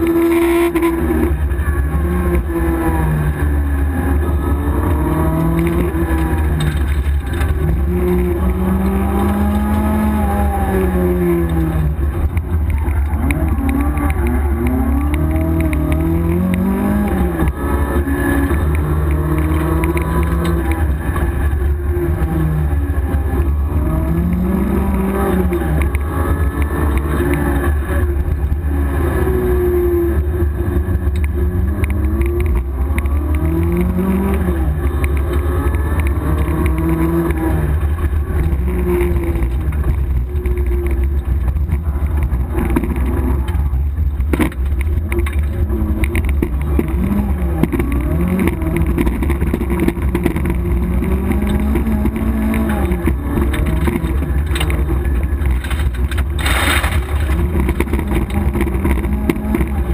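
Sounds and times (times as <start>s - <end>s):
constant low rumble: 0.0s - 59.9s
rally car engine revving hard: 0.0s - 59.9s.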